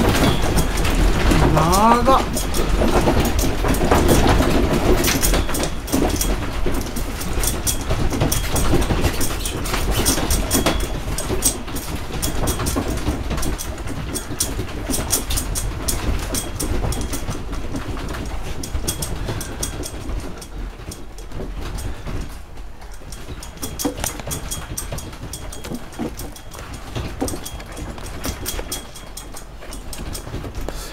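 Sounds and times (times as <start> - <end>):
room contents rattling: 0.0 - 30.9.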